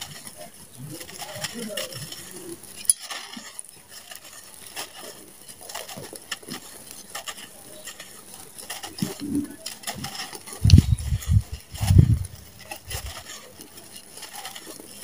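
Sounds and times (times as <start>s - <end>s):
grit and pebbles pattering: 0.0s - 15.0s.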